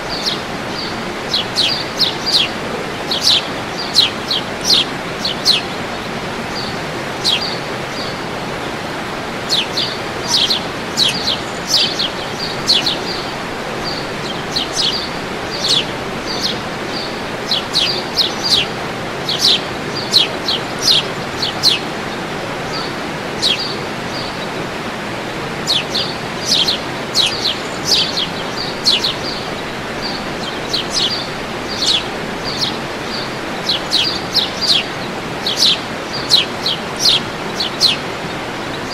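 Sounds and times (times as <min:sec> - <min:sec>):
birds chirping: 0:00.0 - 0:38.9
waterfall rushing: 0:00.0 - 0:38.9.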